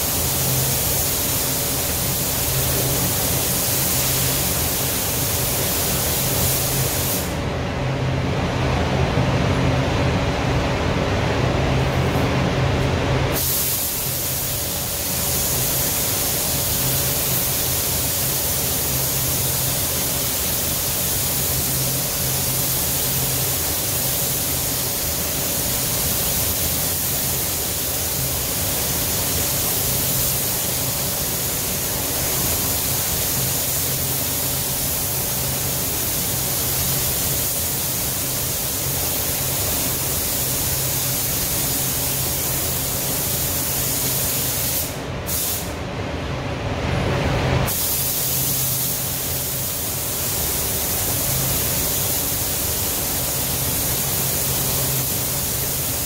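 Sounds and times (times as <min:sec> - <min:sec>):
paint spray gun hissing: 0:00.0 - 0:07.4, 0:13.3 - 0:45.7, 0:47.7 - 0:56.0.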